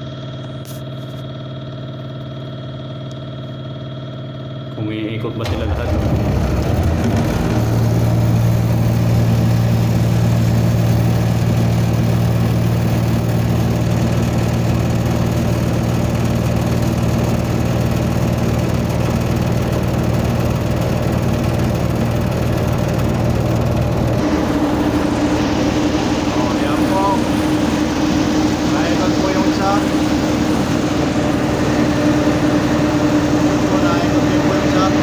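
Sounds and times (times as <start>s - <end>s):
refrigeration unit mechanical hum: 0.0s - 35.0s.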